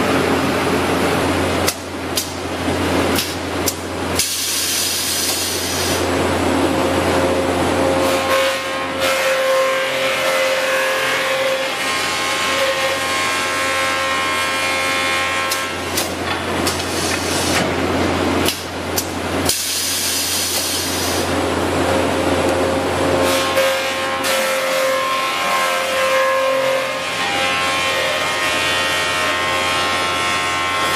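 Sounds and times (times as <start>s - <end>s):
machine motor hum and whine: 0.0s - 30.9s.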